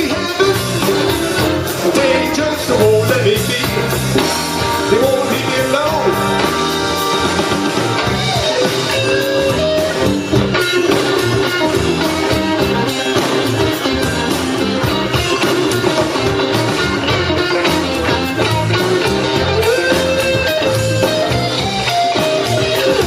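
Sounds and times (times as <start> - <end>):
bass: 0.0 - 23.0
drums: 0.0 - 23.0
electric guitar bent notes: 0.0 - 23.0.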